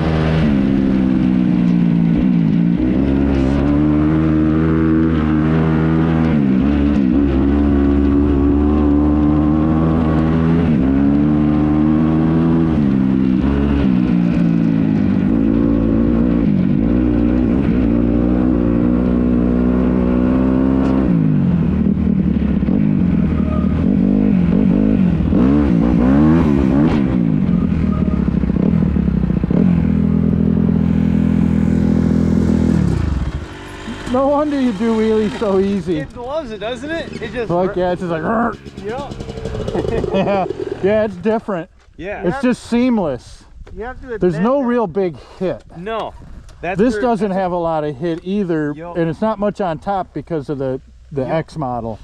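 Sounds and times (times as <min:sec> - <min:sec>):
dirt bike engine revving: 0:00.0 - 0:41.6.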